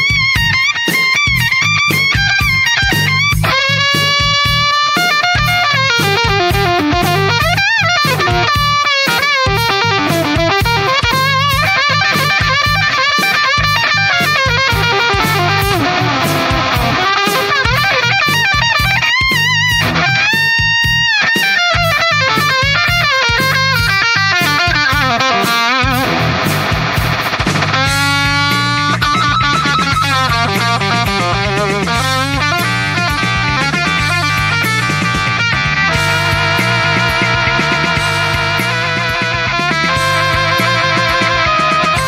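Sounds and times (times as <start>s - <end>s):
bass: 0.0s - 42.0s
drum beat: 0.0s - 42.0s
electric guitar lead: 0.0s - 42.0s.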